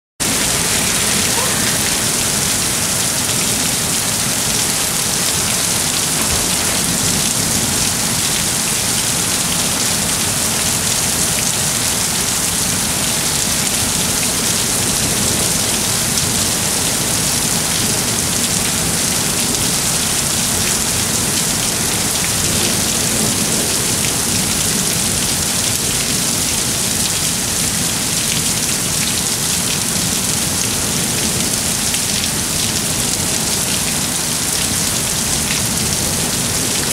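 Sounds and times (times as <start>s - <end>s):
heavy rain pouring: 0.2s - 36.9s.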